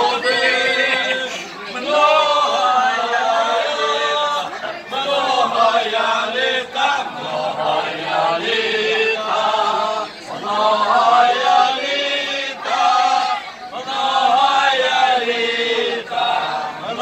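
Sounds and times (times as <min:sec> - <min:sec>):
men singing together: 0:00.0 - 0:17.0.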